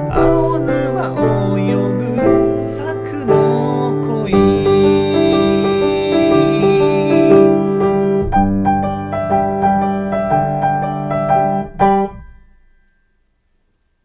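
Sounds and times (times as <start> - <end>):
piano playing: 0.0 - 13.2.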